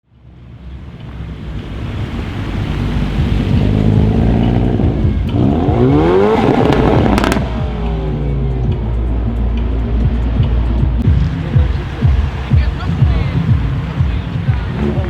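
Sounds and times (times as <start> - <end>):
car engine revving: 0.1 - 15.0
exhaust crackles: 0.1 - 15.0.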